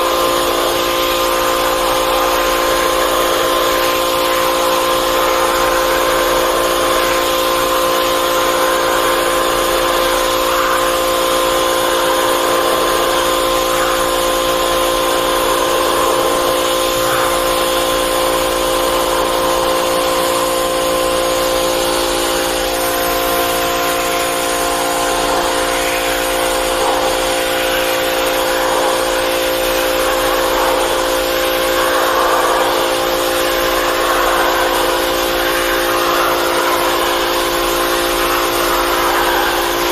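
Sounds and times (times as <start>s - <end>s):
pressure washer whine: 0.0s - 39.9s
water jet spraying on metal: 0.0s - 39.9s.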